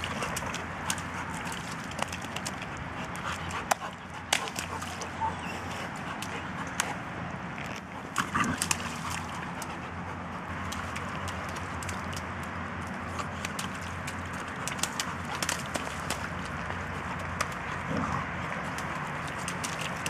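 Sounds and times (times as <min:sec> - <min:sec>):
dogs splashing in puddle: 0:00.0 - 0:20.0
outdoor background: 0:00.0 - 0:20.0.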